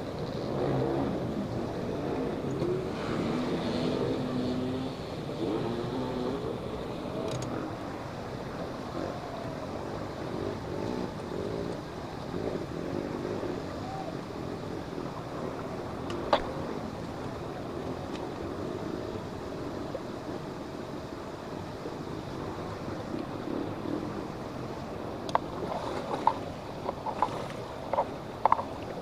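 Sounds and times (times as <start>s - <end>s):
motorcycle engines running: 0.0s - 29.0s
outdoor background noise: 0.0s - 29.0s.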